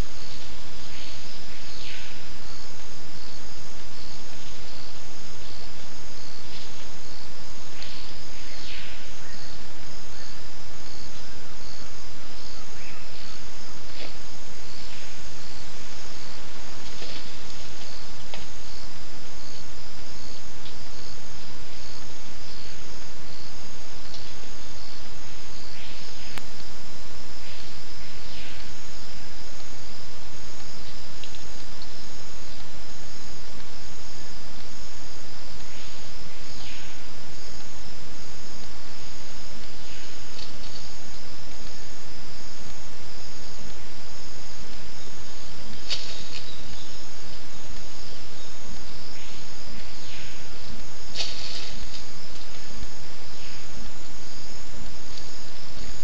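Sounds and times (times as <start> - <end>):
even hiss: 0.0 - 56.0
insects trilling: 0.0 - 56.0.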